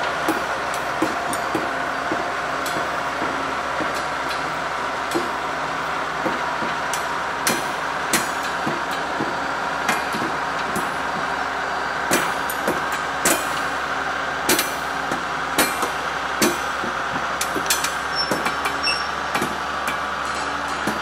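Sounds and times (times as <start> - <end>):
locomotive engine hum: 0.0 - 21.0.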